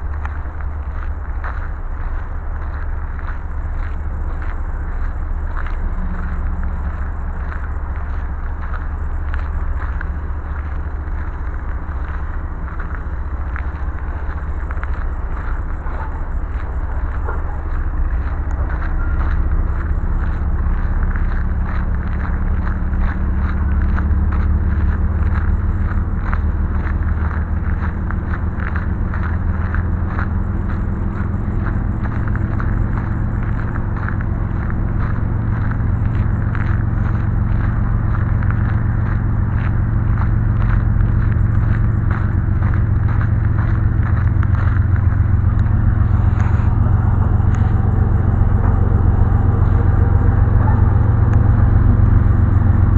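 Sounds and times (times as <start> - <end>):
clicks and rattles of train cars: 0.0 - 45.7
train wheels rumbling on rails: 0.0 - 52.9.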